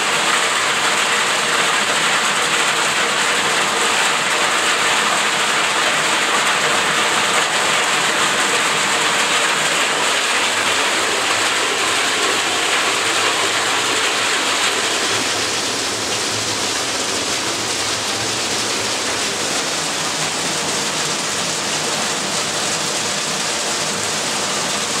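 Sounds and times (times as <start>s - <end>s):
hail and heavy rain drumming: 0.0s - 25.0s.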